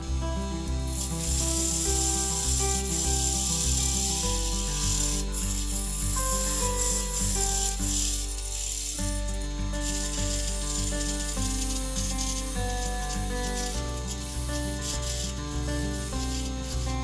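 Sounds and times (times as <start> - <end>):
acoustic guitar music: 0.0 - 17.0
tool scraping spinning wood: 0.0 - 17.0.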